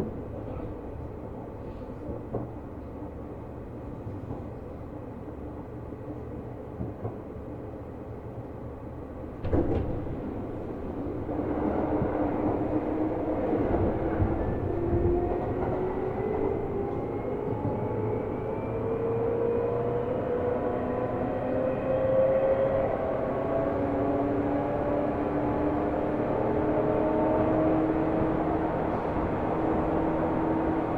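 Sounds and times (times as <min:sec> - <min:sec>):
train low rumble: 0:00.0 - 0:30.9.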